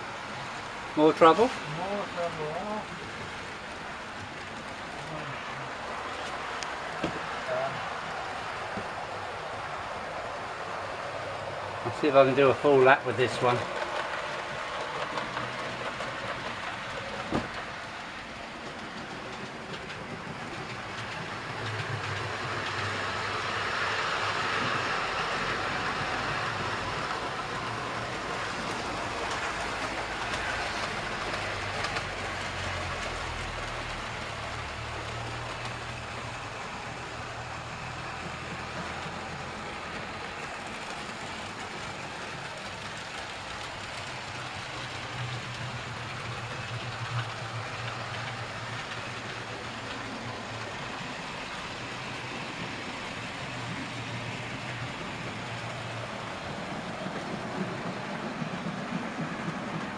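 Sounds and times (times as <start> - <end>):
model train rattling on track: 0.0 - 59.9.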